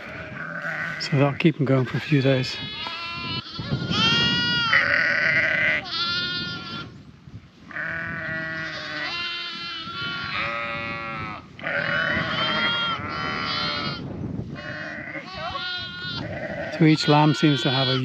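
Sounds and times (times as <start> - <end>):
sheep and lambs bleating: 0.0 - 7.0, 7.7 - 18.0.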